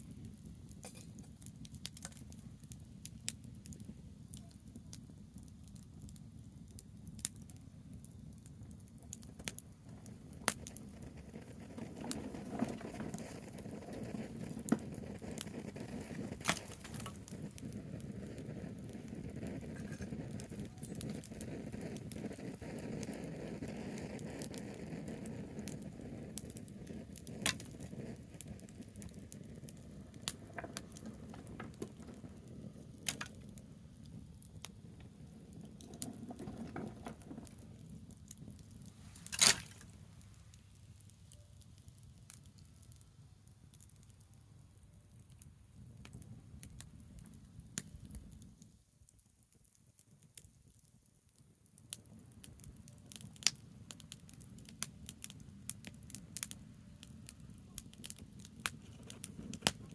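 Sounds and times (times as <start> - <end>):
burning branches crackling: 0.0 - 59.9
low fire rumble: 0.0 - 59.9.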